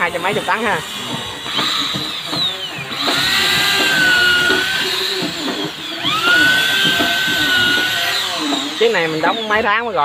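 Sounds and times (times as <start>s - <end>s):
electric hand drill whining: 0.0s - 10.0s.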